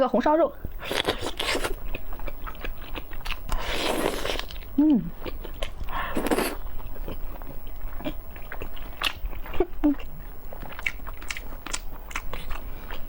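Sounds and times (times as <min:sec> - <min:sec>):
chewing with lip smacks: 0:00.6 - 0:13.0.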